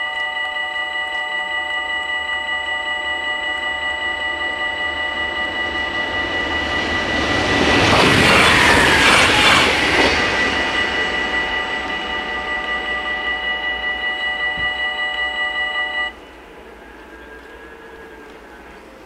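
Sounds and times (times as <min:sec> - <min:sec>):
crossing warning bells ringing: 0:00.0 - 0:19.0
train passing: 0:00.0 - 0:19.0.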